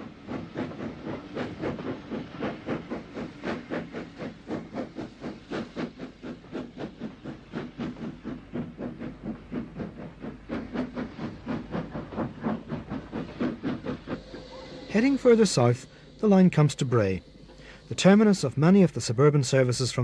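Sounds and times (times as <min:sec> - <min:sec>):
steady hiss of steam: 0:00.0 - 0:20.0
steam locomotive chuffing: 0:00.0 - 0:20.0.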